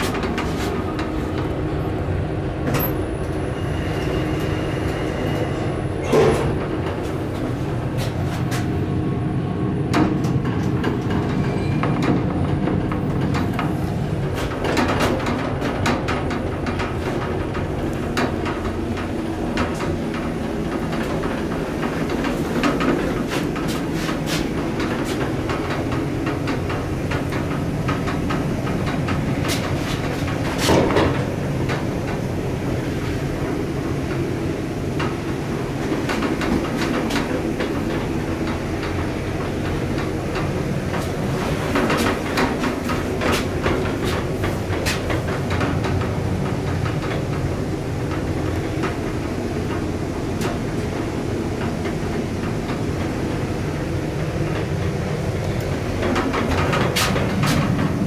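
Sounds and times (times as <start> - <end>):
elevator cab rumble: 0.0 - 58.0.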